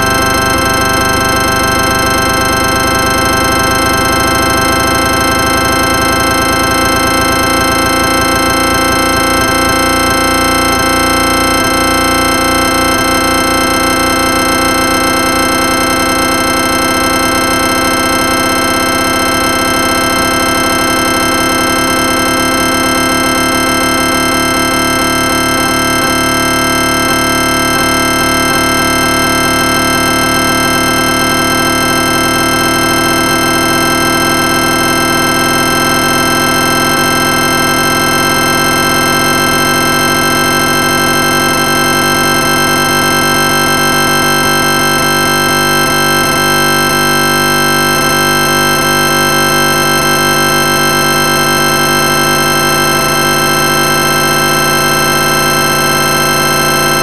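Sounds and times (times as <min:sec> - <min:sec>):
dense sustained synthesized chord: 0:00.0 - 0:57.0.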